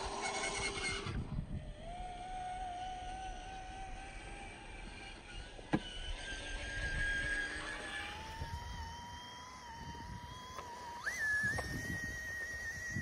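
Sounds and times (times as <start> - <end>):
toy car electric motor whining: 0.0 - 13.0.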